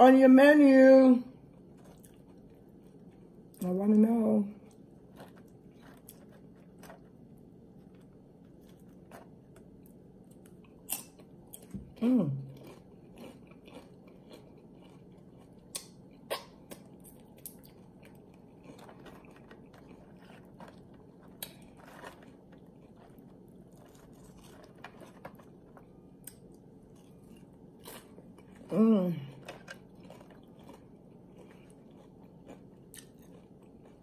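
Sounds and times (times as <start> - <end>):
wet chewing: 1.4 - 3.6, 4.6 - 34.0
chips crunching: 4.7 - 11.8, 12.5 - 28.6, 29.2 - 34.0.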